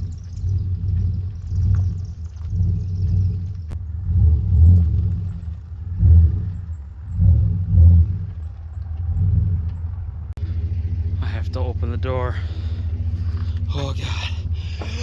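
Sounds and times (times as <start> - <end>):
engine rumbling at low revs: 0.0 - 15.0.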